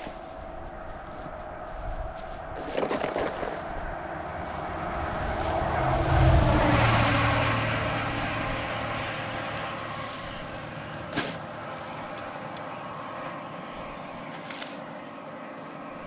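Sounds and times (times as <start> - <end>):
snow-clearing machine engine: 0.0 - 16.0.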